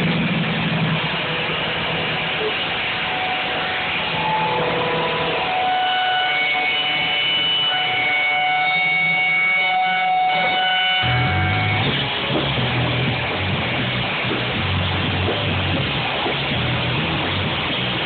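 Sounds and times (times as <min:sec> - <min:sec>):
sustained guitar notes: 0:00.0 - 0:18.0.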